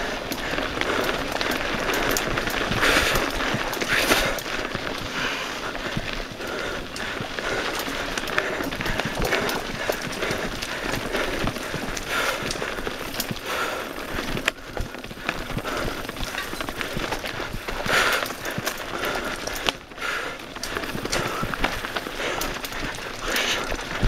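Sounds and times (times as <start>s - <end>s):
bike rattling over bumps: 0.0s - 24.0s
tyres crunching on gravel: 0.0s - 24.0s.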